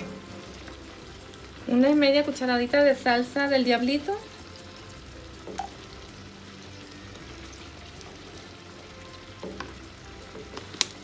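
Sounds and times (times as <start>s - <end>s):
shrimp sizzling in a pan: 0.0s - 11.0s.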